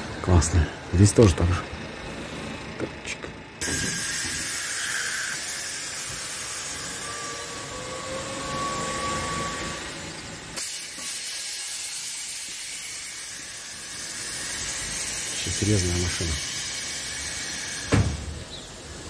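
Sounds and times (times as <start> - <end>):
steady hissing noise: 3.6 - 19.0.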